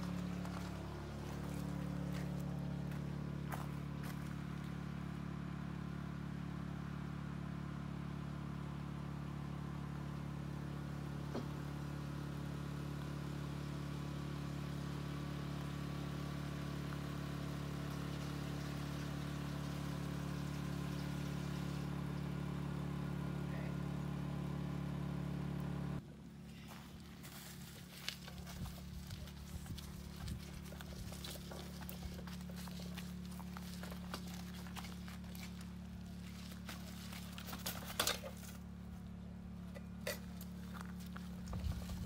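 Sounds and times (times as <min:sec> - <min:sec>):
engine humming steadily: 0:00.0 - 0:42.0.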